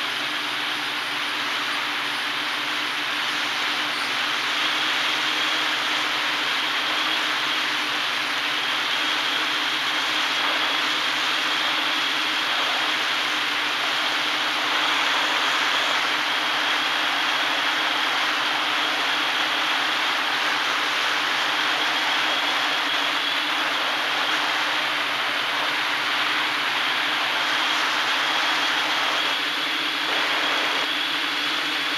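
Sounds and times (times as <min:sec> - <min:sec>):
drone motors and propellers: 0:00.0 - 0:31.9.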